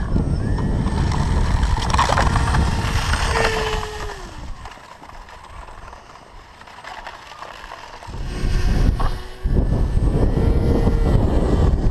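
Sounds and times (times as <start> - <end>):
electric motor and propeller whine: 0.0 - 11.9.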